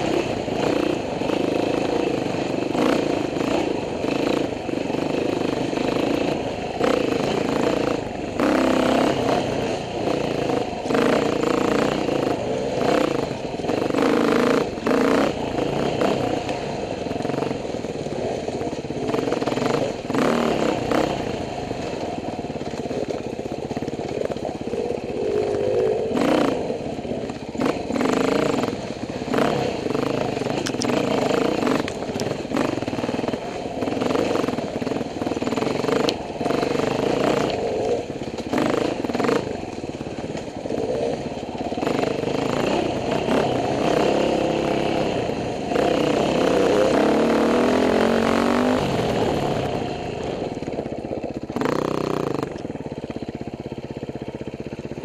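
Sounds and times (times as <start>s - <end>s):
dirt bike engine revving: 0.0s - 52.8s.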